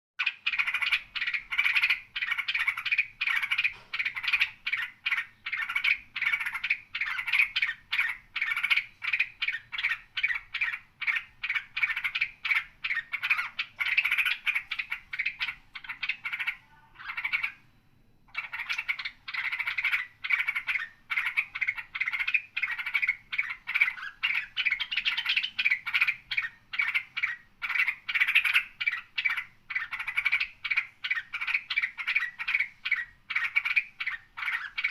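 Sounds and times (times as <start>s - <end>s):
songbird chirping: 0.2s - 34.9s.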